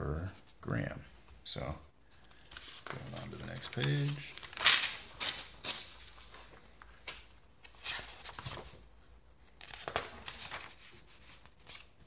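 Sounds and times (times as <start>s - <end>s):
paper rustling and crinkling: 2.1s - 12.0s.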